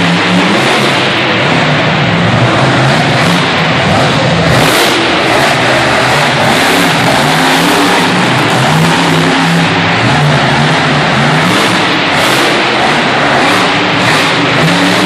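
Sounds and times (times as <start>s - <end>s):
truck engines revving hard: 0.0s - 15.0s.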